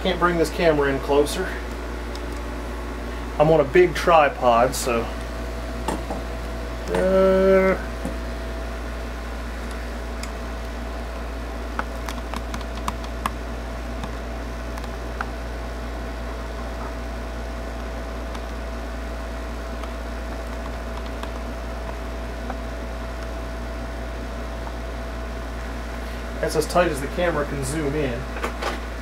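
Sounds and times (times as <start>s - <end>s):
hot air blower whirring: 0.0s - 29.0s
low hum: 0.0s - 29.0s.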